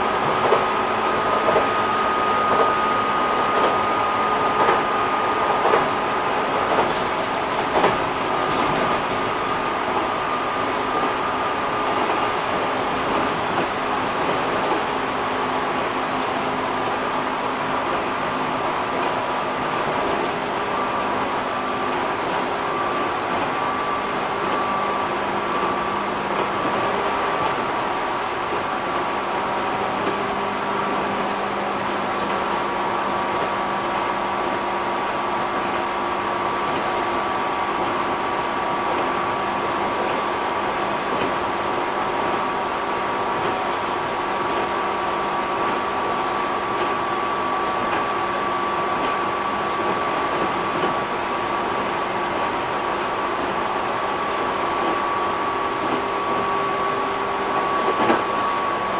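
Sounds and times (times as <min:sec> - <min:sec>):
electric train running interior: 0:00.0 - 0:58.9.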